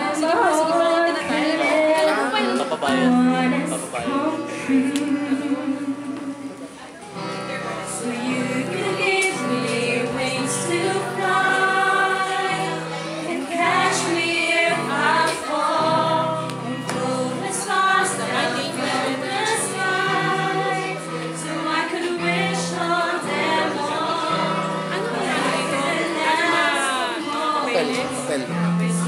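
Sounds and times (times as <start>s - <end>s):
group of voices singing: 0.0s - 6.8s, 7.8s - 29.0s.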